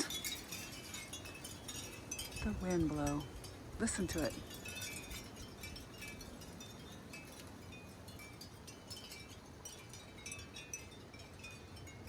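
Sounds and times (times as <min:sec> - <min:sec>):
wind chimes tinkling: 0:00.0 - 0:12.0.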